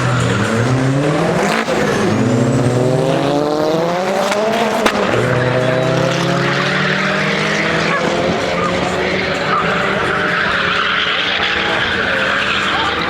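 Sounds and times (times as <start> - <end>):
car engine accelerating hard: 0.0 - 13.0
gear shift crack: 0.0 - 13.0.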